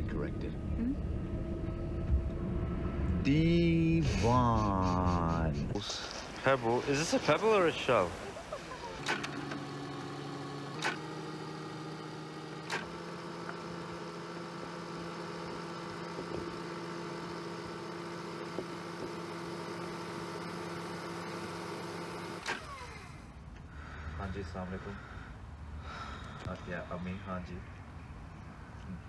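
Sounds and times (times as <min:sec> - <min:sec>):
tape machine whirring: 0:00.0 - 0:23.3.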